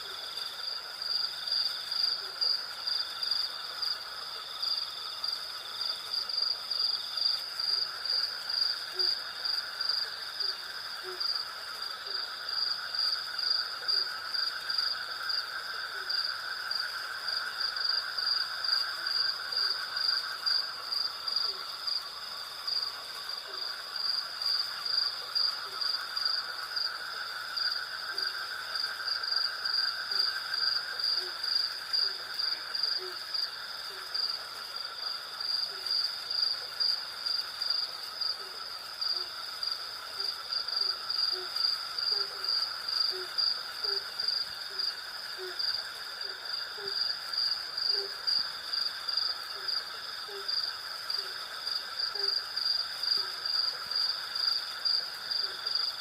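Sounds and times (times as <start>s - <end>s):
high pulsing insect chirp: 0.0s - 56.0s.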